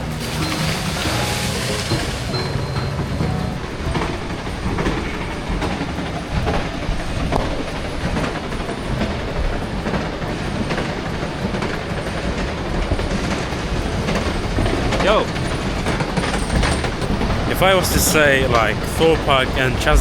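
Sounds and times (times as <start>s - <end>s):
ride vehicle rumbling on track: 0.0s - 20.0s
wheels clacking over rails: 0.0s - 20.0s.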